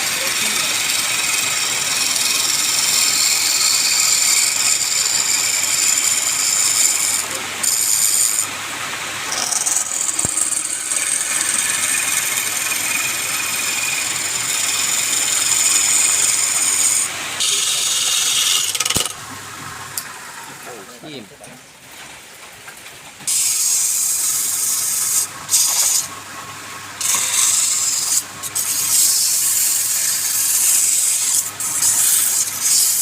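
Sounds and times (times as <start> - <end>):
wood lathe cutting wood: 0.0 - 19.2, 23.3 - 26.2, 27.0 - 33.0.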